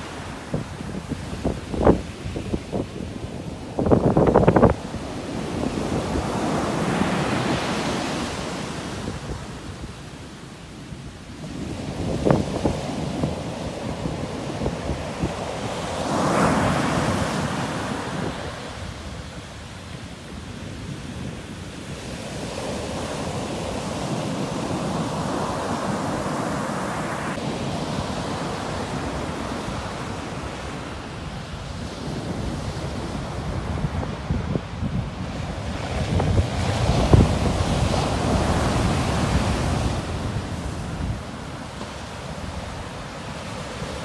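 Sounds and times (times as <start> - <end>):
sea waves washing onto shore: 0.0 - 44.0.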